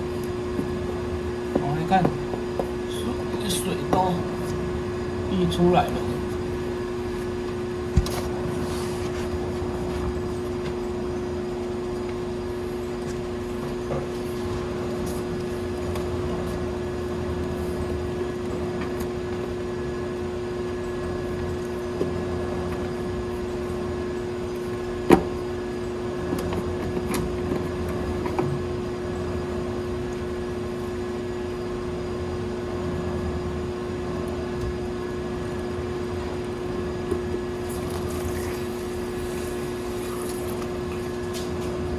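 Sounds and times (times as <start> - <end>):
mechanical hum: 0.0 - 41.9.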